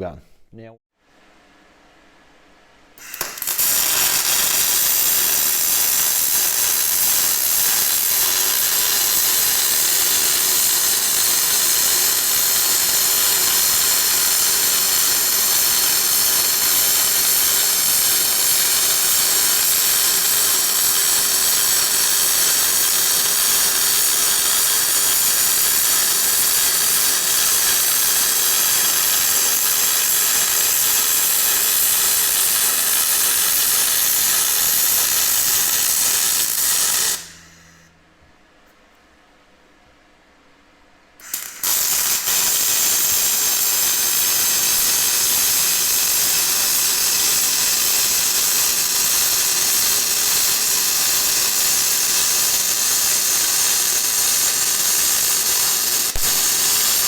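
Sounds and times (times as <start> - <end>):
welding arc hissing: 3.0 - 38.0, 41.2 - 57.0.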